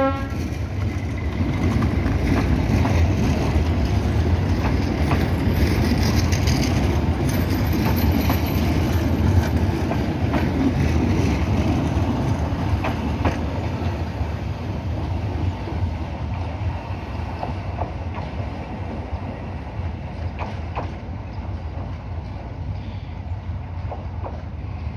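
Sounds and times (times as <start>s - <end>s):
train coaches rumbling past: 0.0s - 24.9s
wheels clicking over rail joints: 0.3s - 16.6s, 20.0s - 22.8s, 23.7s - 24.9s.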